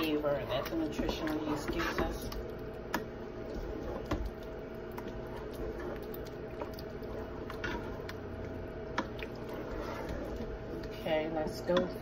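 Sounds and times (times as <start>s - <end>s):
spoon stirring thick chili: 0.0s - 12.0s
steady background hum: 0.0s - 12.0s.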